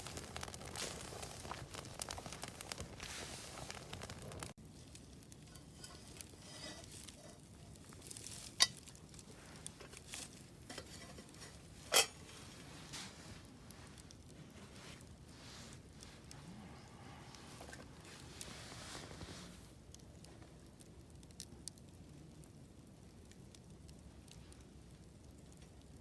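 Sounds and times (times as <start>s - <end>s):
faint sizzling hiss: 0.0s - 26.0s.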